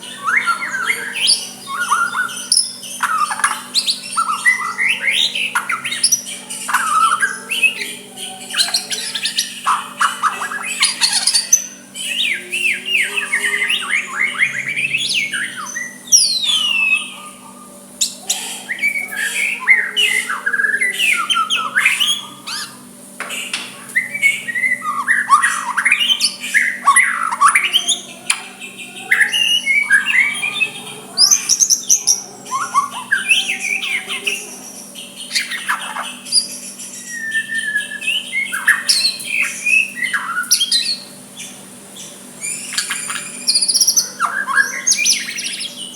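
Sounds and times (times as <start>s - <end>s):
bird singing varied song: 0.0s - 45.9s
faint steady hum: 0.0s - 45.9s.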